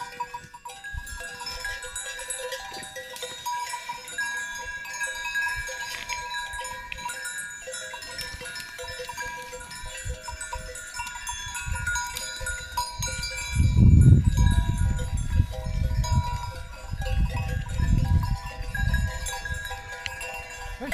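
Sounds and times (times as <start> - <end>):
cowbells clanking: 0.0 - 20.9.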